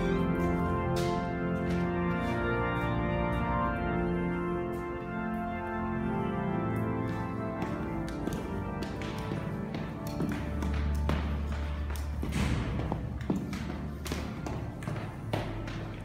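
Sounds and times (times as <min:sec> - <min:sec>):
organ chords: 0:00.0 - 0:16.0.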